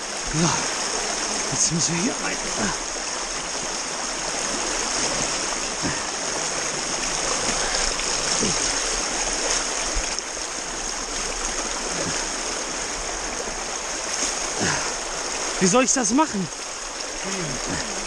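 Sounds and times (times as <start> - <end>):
rushing stream water: 0.0 - 18.0
splashes of wading: 0.0 - 18.0.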